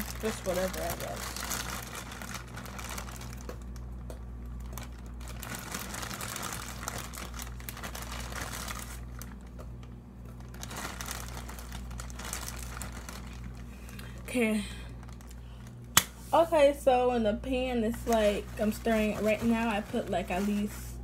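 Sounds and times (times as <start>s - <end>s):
plastic bag crinkling: 0.0s - 15.9s, 17.8s - 21.0s
steady low hum: 0.0s - 21.0s.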